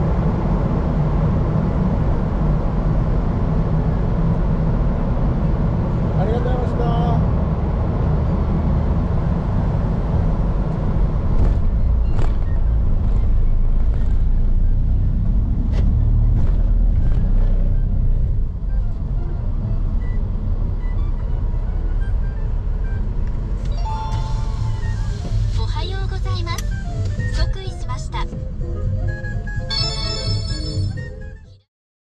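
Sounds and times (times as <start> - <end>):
vehicle rumbling: 0.0 - 31.7.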